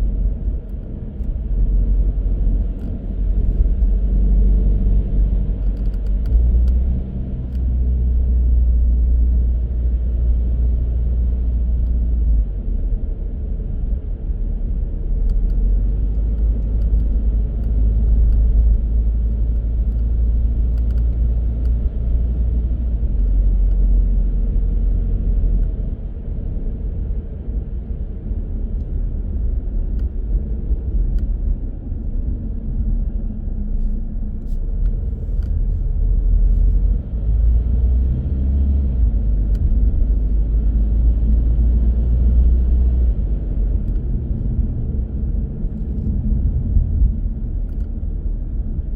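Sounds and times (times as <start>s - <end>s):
car tyre road and engine noise: 0.0s - 48.9s.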